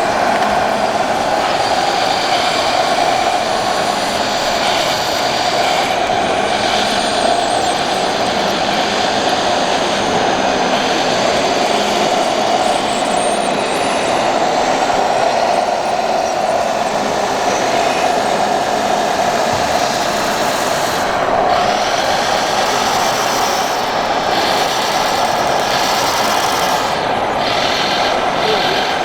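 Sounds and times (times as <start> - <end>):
model car mechanical noise: 0.0 - 29.0.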